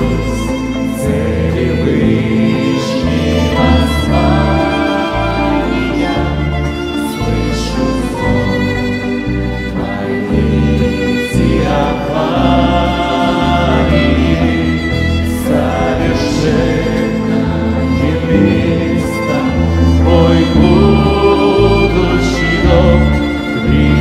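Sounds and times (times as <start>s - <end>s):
low bass line: 0.0s - 24.0s
people singing worship song: 0.0s - 24.0s
piano: 0.0s - 24.0s.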